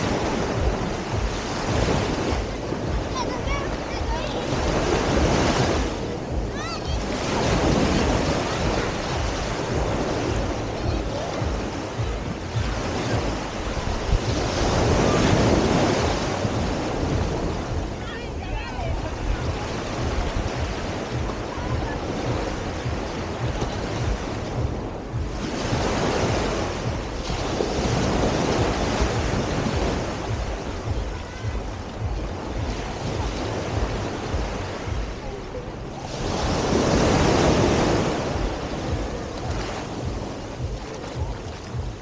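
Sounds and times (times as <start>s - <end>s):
sea waves breaking: 0.0s - 42.0s
wind rumbling on microphone: 0.0s - 42.0s.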